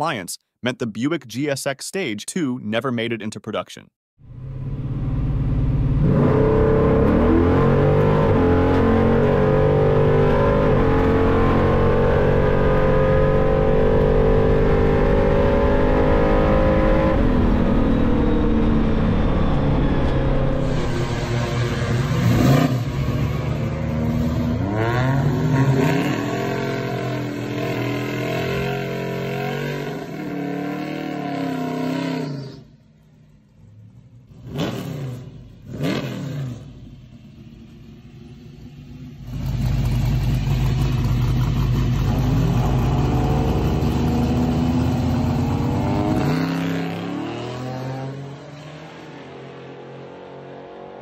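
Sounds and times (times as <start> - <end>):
car engine revving: 4.2 - 51.0.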